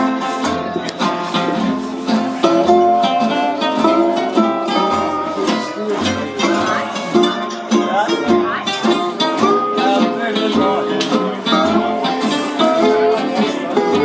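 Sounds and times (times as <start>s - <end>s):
bass notes: 0.0s - 14.0s
strummed guitars: 0.0s - 14.0s.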